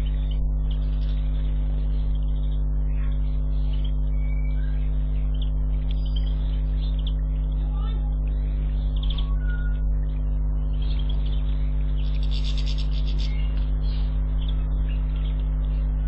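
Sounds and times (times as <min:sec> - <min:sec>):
electrical hum: 0:00.0 - 0:16.0
small birds chirping: 0:00.0 - 0:16.0.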